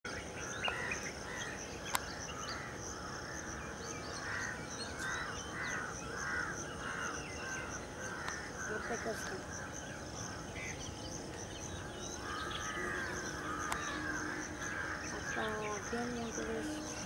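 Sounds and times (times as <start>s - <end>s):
birds calling: 0.1s - 17.0s.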